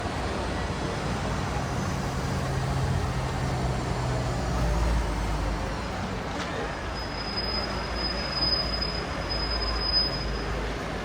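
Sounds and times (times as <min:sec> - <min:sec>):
outdoor traffic noise: 0:00.0 - 0:11.0.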